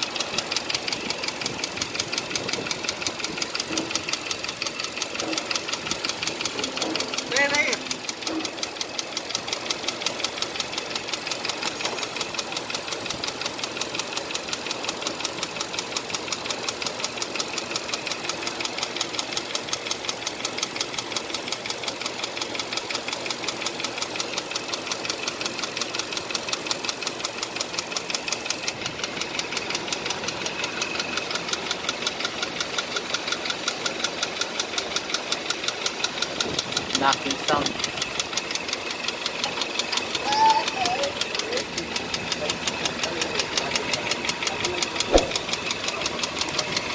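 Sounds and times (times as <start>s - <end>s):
car engine with rapid knock: 0.0s - 46.9s.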